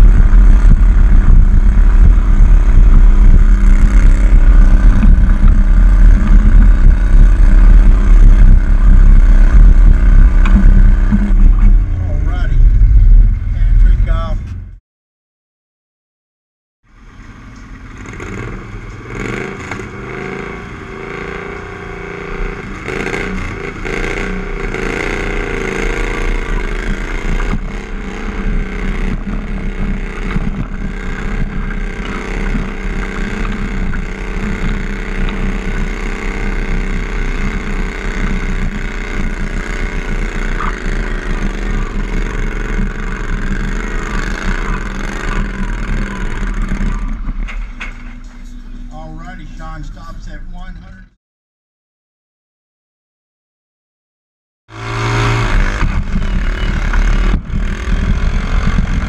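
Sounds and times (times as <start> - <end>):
tractor engine at full throttle: 0.0 - 14.6, 17.0 - 50.8, 54.7 - 59.0.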